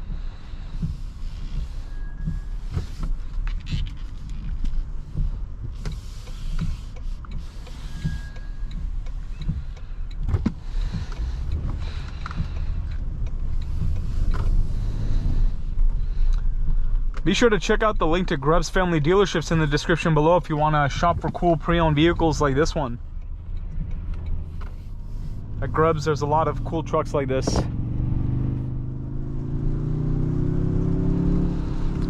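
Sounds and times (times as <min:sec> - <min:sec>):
car cabin engine and tyre rumble: 0:00.0 - 0:32.0.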